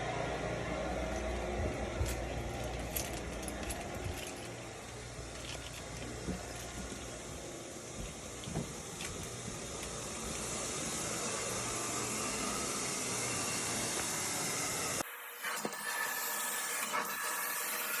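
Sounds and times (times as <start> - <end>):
carpet cleaning machine running: 0.0 - 15.2.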